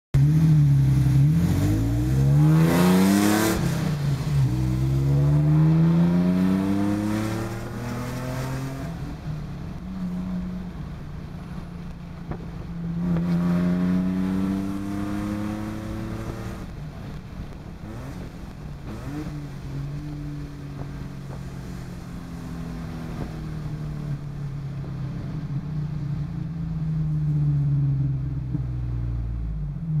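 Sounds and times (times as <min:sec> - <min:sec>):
car engine revving: 0:00.2 - 0:24.8.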